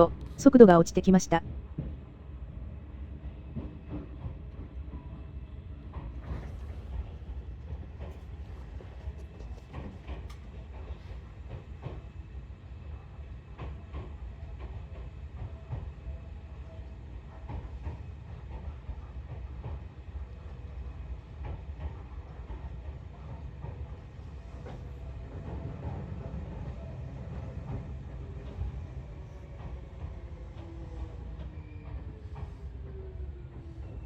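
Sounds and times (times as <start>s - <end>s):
train running rumble: 1.6s - 34.0s.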